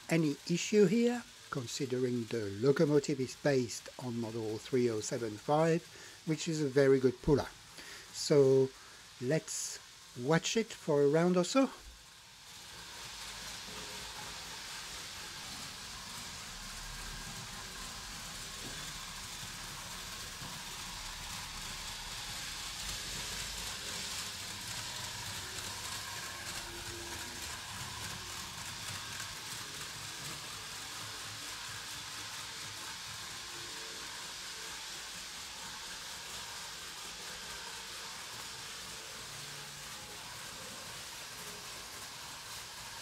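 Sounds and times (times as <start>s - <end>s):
model train rolling on track: 0.0s - 43.0s.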